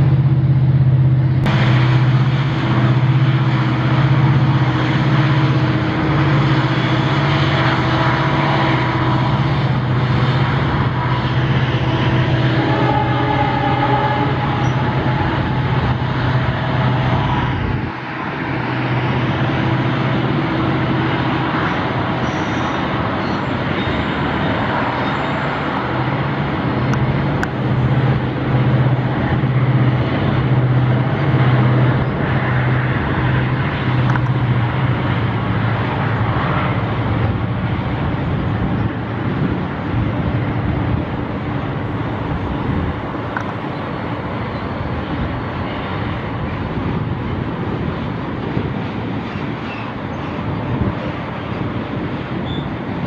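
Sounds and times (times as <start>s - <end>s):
diesel locomotive engine drone: 0.0s - 53.0s
train wheel and wagon noise: 0.0s - 53.0s.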